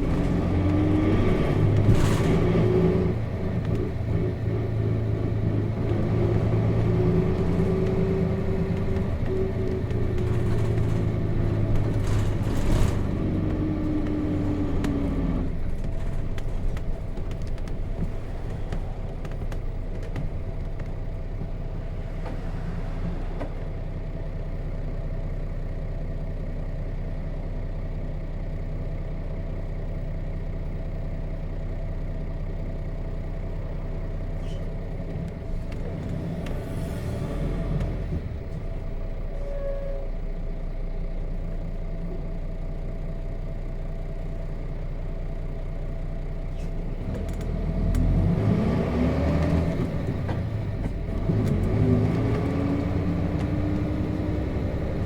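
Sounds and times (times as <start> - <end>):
diesel bus engine: 0.0 - 55.0.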